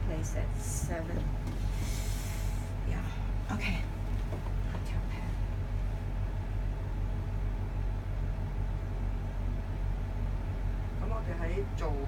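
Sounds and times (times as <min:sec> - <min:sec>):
faint rumble: 0:00.0 - 0:12.0
low mechanical hum: 0:00.0 - 0:12.0.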